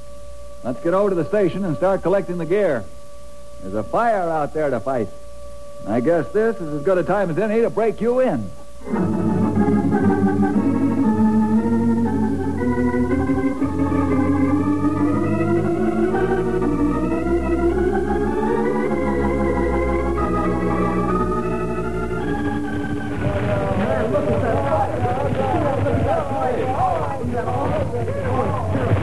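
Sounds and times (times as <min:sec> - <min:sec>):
sustained organ chords: 0:00.0 - 0:29.0.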